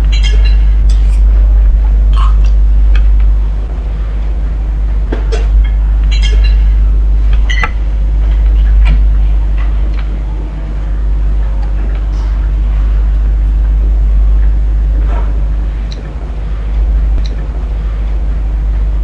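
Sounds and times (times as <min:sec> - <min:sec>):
loud low hum: 0:00.0 - 0:19.0.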